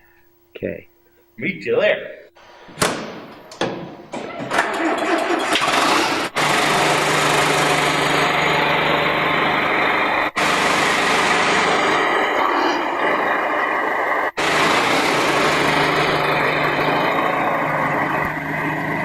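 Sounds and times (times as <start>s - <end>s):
vehicle engine running: 2.4s - 19.0s.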